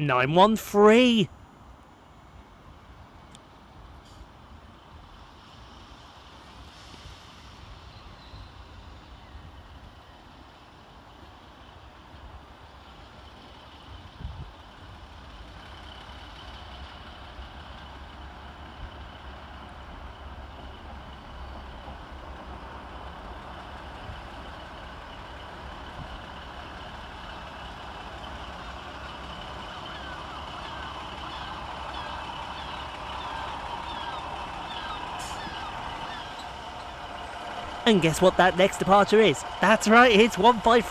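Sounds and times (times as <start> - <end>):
diesel railcar arriving: 0.0 - 40.9.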